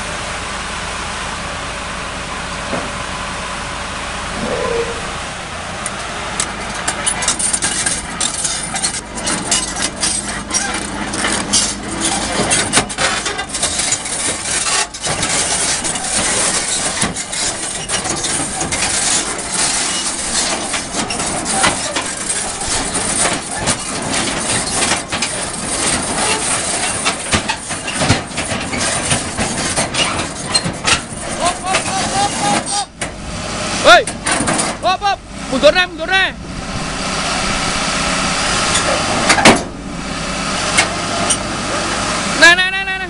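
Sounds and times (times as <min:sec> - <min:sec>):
excavator diesel engine: 0:00.0 - 0:43.0
steel tracks clanking and rattling: 0:04.1 - 0:43.0.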